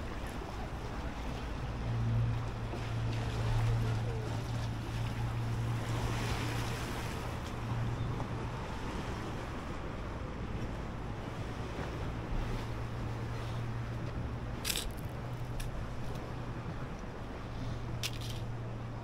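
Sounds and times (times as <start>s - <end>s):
lake water lapping: 0.0s - 18.8s.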